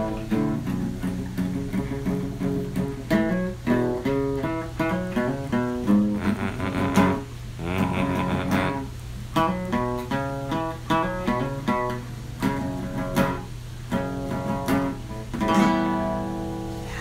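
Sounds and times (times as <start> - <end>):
guitar strumming chords: 0.0 - 17.0
steady low hum: 0.0 - 17.0.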